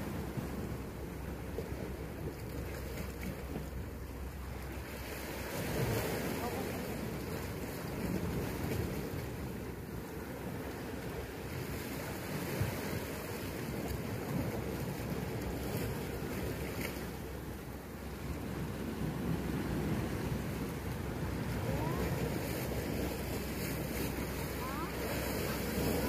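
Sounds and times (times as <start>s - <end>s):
sea waves on rocky shore: 0.0s - 26.0s.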